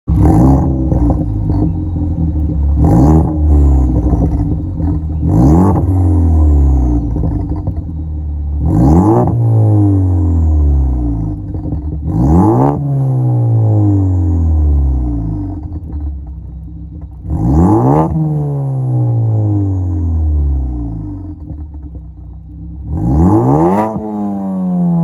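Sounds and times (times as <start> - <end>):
car engine revving: 0.1 - 25.0.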